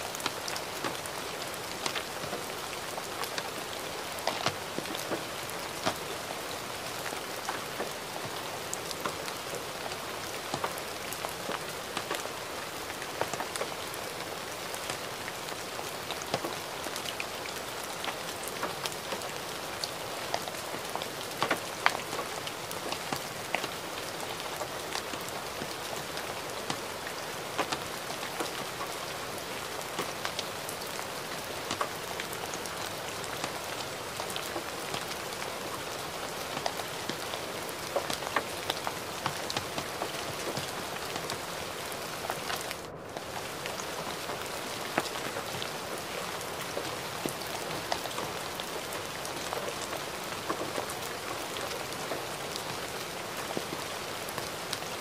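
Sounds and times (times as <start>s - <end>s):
gentle rain hiss: 0.0s - 55.0s
close rain drop ticks: 0.1s - 55.0s.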